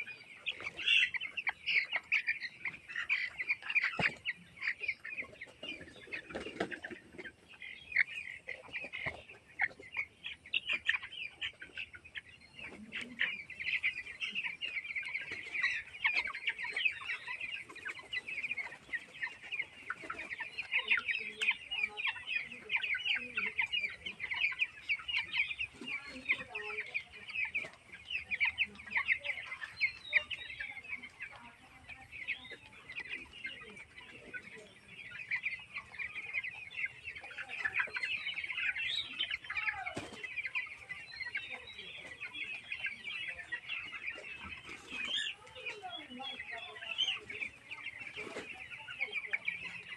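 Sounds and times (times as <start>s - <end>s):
chicks peeping: 0.0s - 49.9s.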